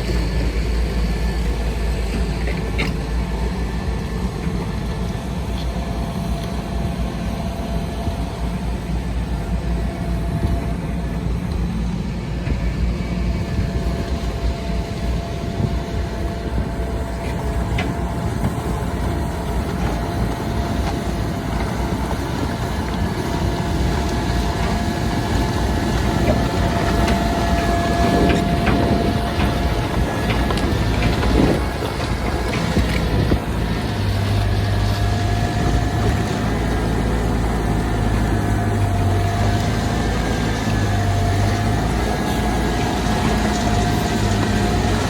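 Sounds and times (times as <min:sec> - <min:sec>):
diesel machine rumbling: 0:00.0 - 0:45.0.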